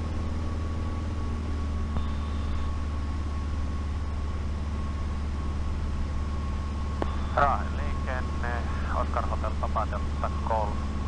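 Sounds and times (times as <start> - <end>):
light aircraft engine drone: 0.0 - 11.0
thin steady whine: 0.1 - 11.0.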